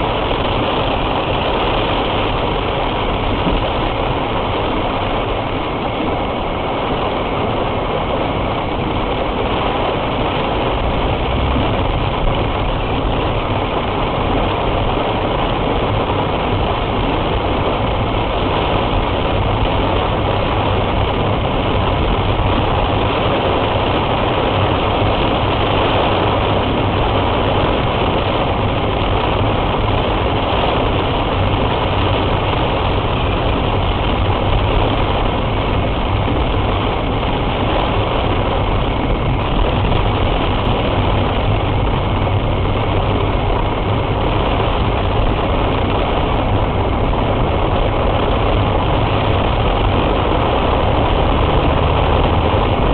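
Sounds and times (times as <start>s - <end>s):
heavy rain on a car: 0.0s - 52.9s
low engine rumble: 0.0s - 52.9s.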